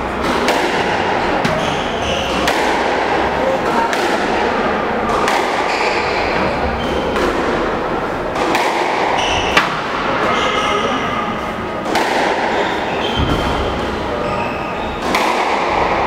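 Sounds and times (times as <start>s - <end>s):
murmur of voices: 0.0s - 16.0s
squash racket hitting ball: 0.0s - 16.0s.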